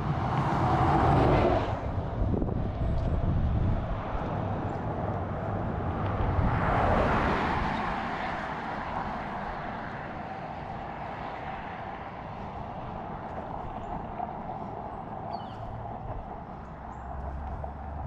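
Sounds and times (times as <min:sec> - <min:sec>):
vehicle passing: 0:00.0 - 0:18.0.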